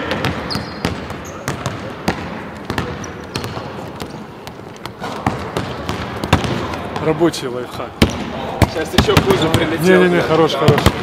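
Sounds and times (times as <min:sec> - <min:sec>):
basketballs bouncing on hardwood: 0:00.0 - 0:07.3, 0:08.0 - 0:09.8, 0:10.6 - 0:11.0.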